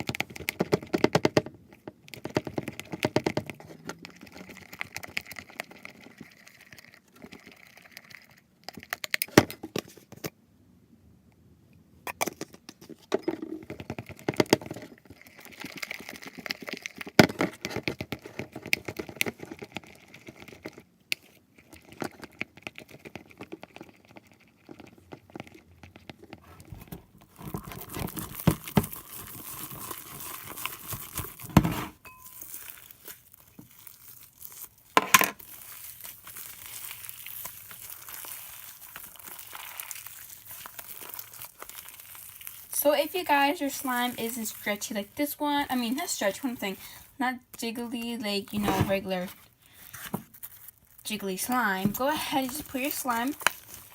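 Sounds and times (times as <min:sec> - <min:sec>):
slime squishing and crackling: 0:02.1 - 0:09.2, 0:13.6 - 0:26.4, 0:27.2 - 0:53.9.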